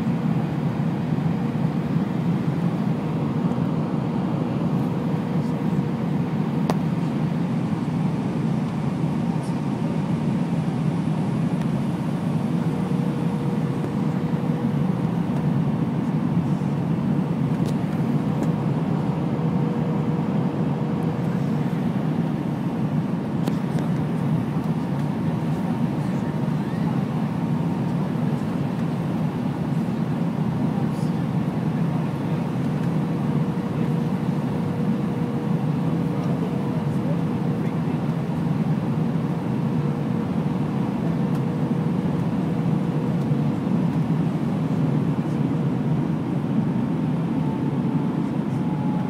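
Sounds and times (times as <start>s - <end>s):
jet engines rumbling: 0.0s - 49.0s.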